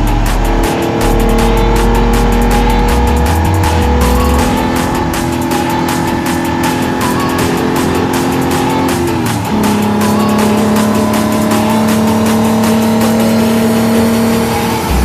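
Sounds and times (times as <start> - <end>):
car engine pulling hard: 0.0 - 15.0.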